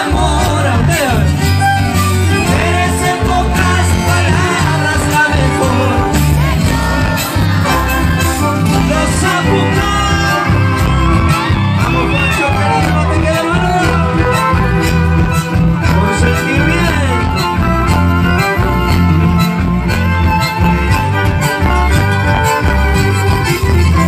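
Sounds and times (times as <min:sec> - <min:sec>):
electric bass: 0:00.0 - 0:24.0
guitars: 0:00.0 - 0:24.0
steady drum beat: 0:00.0 - 0:24.0
violins playing melody: 0:00.9 - 0:24.0.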